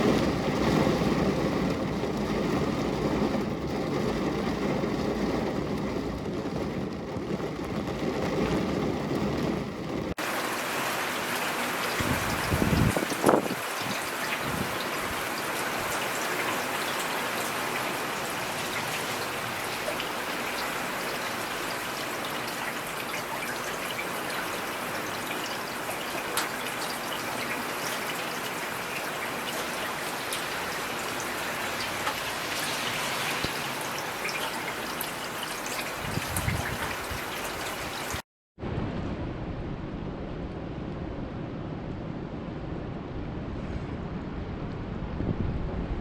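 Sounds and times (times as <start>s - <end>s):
steady rain falling: 0.0s - 38.2s
thunder rumble and crack: 0.0s - 46.0s.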